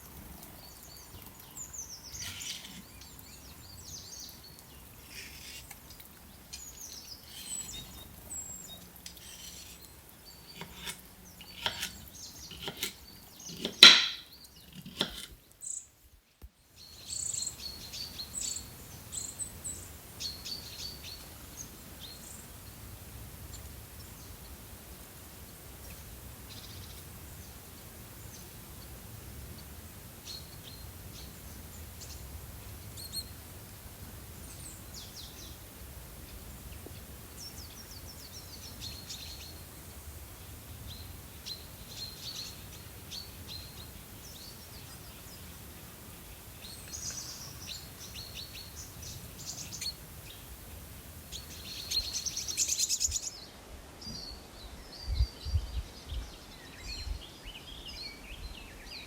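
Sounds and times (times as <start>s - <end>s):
small songbirds chirping: 0.0s - 33.5s, 34.2s - 59.0s.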